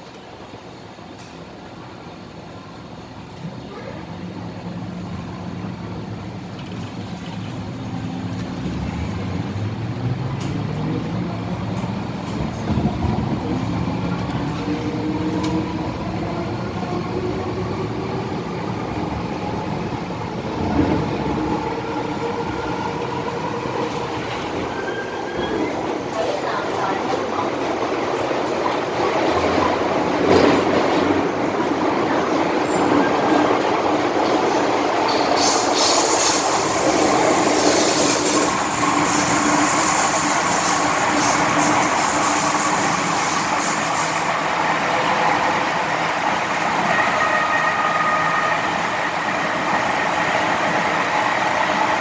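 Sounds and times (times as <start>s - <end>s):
train running noise: 0.0s - 52.0s.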